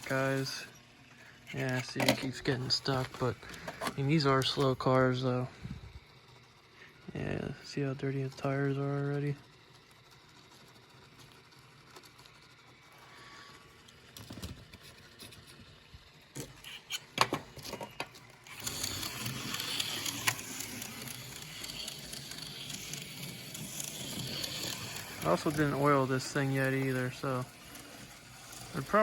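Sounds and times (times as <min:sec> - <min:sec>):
slot car whirring on track: 0:00.0 - 0:29.0.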